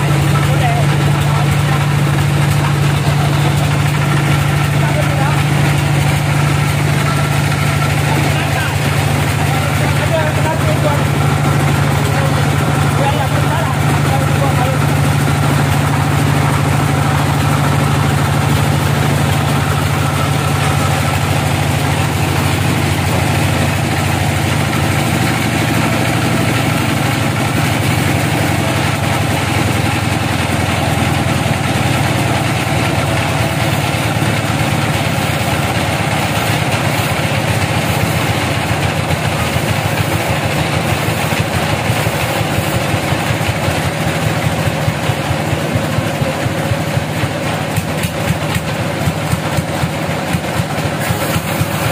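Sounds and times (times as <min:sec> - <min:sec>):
sawmill engine humming: 0:00.0 - 0:51.9.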